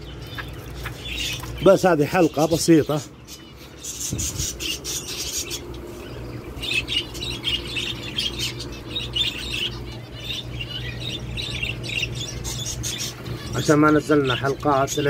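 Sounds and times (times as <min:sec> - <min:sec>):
finches chirping: 0:00.0 - 0:15.0
steady low hum: 0:00.0 - 0:15.0.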